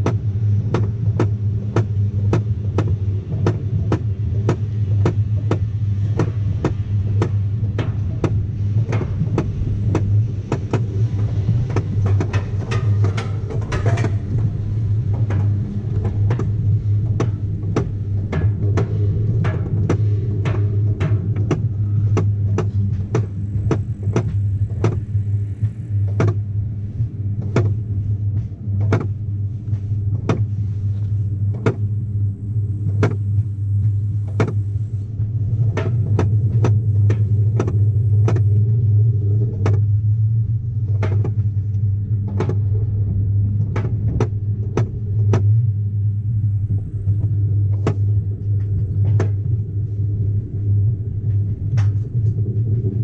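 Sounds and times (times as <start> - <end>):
wheels rumbling on steel track: 0.0 - 53.0.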